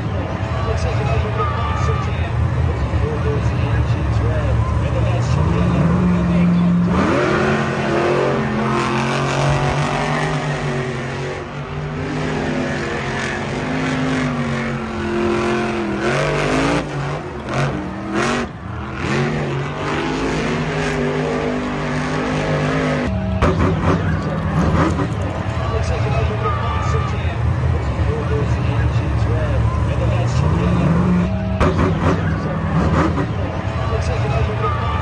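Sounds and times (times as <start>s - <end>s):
vehicle engine revving: 2.2s - 35.0s.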